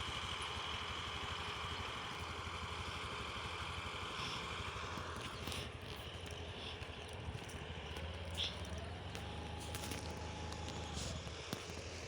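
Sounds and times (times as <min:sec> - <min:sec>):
harvester engine idling: 0:00.0 - 0:12.0.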